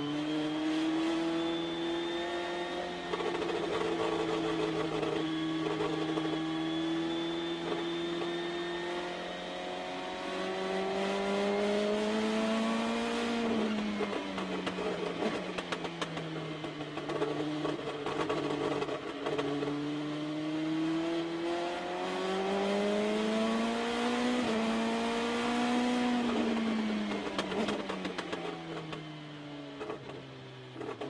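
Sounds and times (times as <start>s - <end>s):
race car engine at speed: 0.0s - 31.0s.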